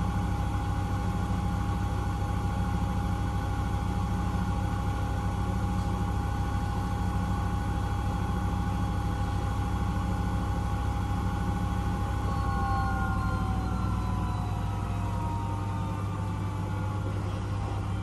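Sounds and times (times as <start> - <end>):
low hum: 0.0 - 18.0
washing machine motor whine: 0.0 - 18.0.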